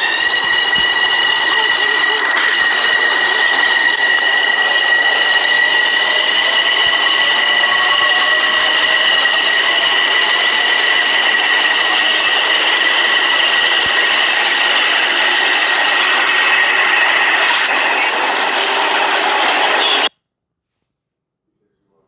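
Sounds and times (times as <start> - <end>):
high-pitched whine: 0.0 - 20.1
subway train rail noise: 0.0 - 20.1.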